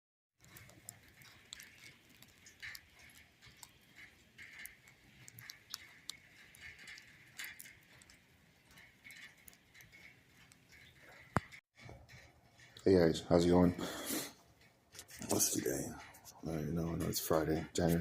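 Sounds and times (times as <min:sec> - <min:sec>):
faint irregular ticking: 0:00.4 - 0:18.0.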